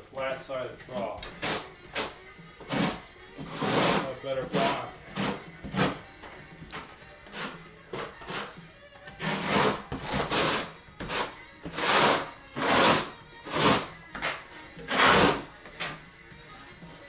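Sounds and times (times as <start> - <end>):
steel trowel scraping mortar: 1.3 - 6.1, 6.7 - 16.0.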